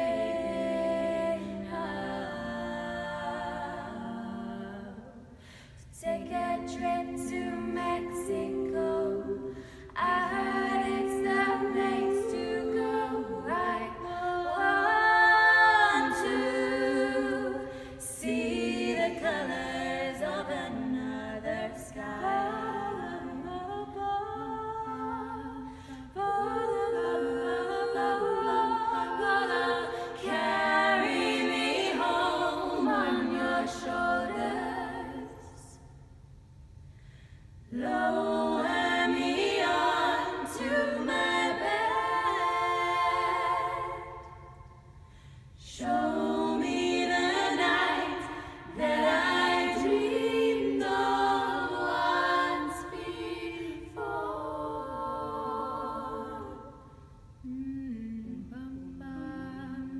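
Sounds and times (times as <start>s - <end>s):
women singing a cappella harmony: 0.0s - 59.9s.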